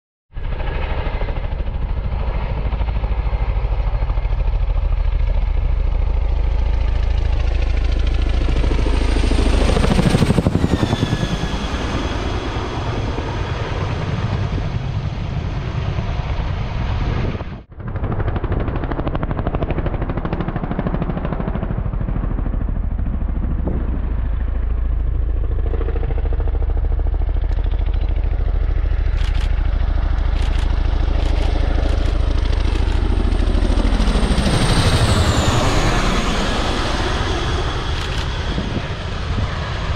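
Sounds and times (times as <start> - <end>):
helicopter rotor chop and engine whine: 0.3 - 39.9.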